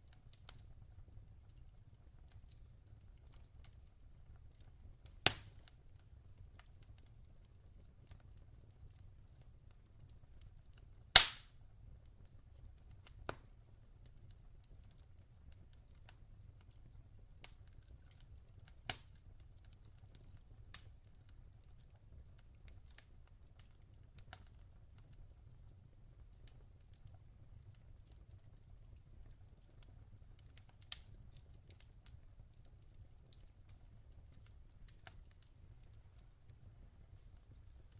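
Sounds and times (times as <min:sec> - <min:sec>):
log fire crackling and popping: 0:00.0 - 0:37.9
low steady fire rumble: 0:00.0 - 0:37.9.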